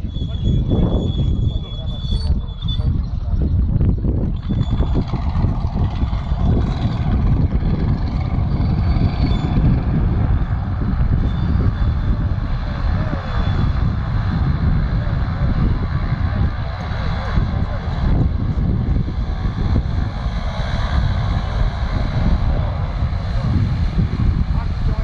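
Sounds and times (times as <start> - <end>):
aircraft radial engine running: 0.0 - 25.0.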